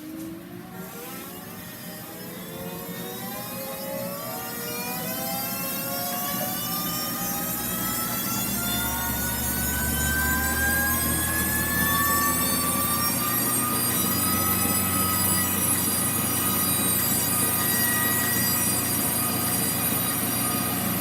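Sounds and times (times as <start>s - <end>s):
high-pitched squealing: 0.8s - 21.0s.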